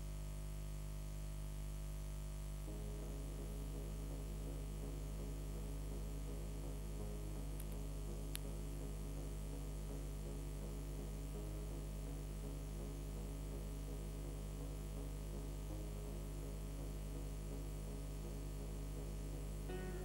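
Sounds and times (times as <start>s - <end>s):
electrical mains hum: 0.0s - 20.0s
faint pulsing buzz: 0.0s - 20.0s.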